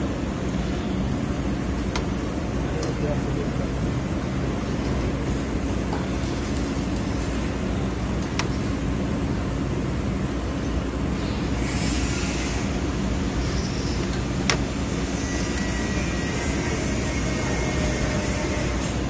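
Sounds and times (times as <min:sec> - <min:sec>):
low machine drone: 0:00.0 - 0:19.0.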